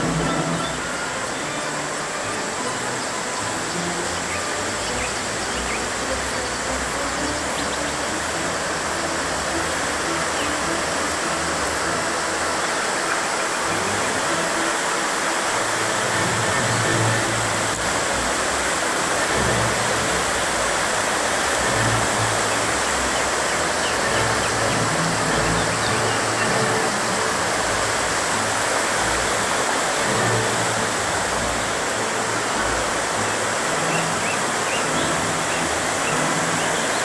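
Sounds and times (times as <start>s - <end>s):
water rushing over rapids: 0.0s - 37.0s.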